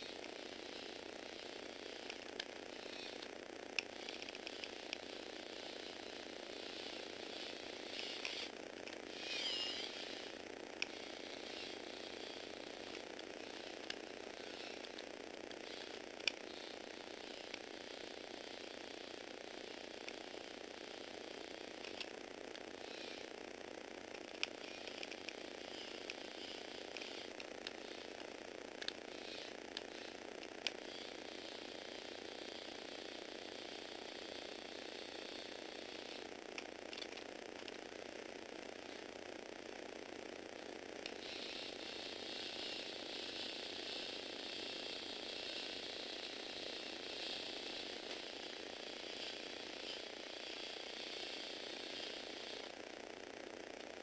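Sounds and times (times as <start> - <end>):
toy motor whirring: 0.0 - 54.0.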